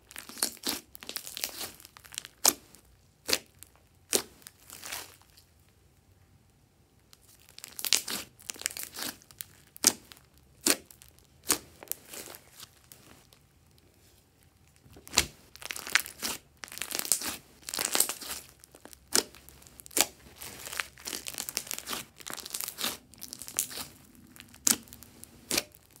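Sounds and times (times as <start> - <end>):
slime squelching: 0.1 - 5.4, 7.2 - 14.0, 14.6 - 26.0.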